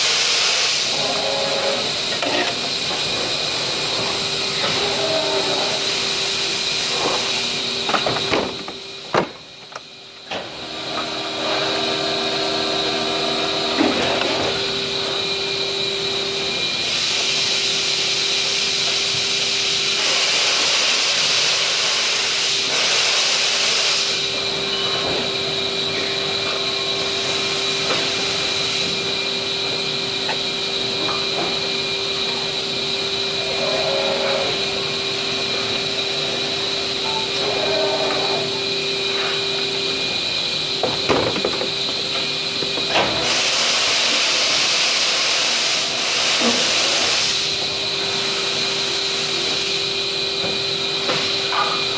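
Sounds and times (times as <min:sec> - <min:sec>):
machinery hissing and humming: 0:00.0 - 0:51.9.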